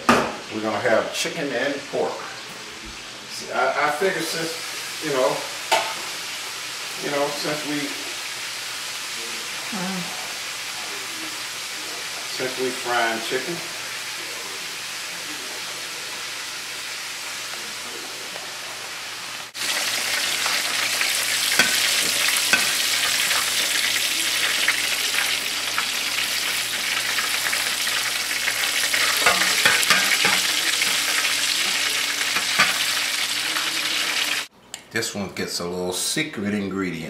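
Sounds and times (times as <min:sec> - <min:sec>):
meat sizzling in hot oil: 0:03.4 - 0:34.5.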